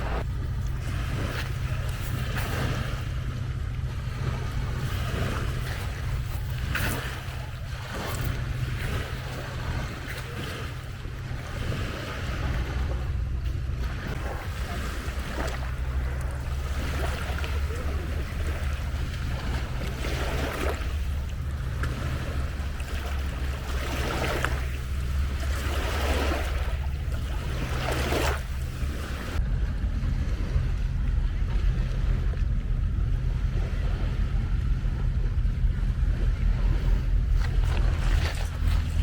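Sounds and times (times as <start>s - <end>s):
lake waves washing onto shore: 0.0s - 39.0s
wind rumble on microphone: 0.0s - 39.0s.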